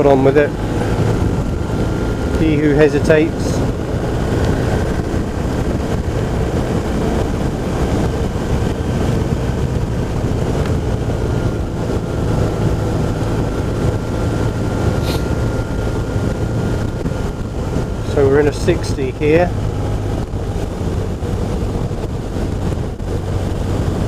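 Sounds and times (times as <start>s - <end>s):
motorcycle engine hum: 0.0s - 24.0s
wind rush on microphone: 0.0s - 24.0s.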